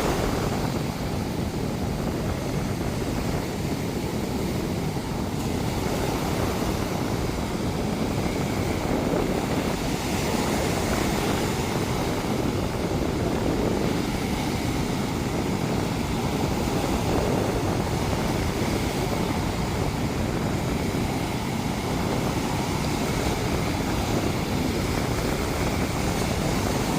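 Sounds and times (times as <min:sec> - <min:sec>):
ocean waves washing: 0:00.0 - 0:26.9.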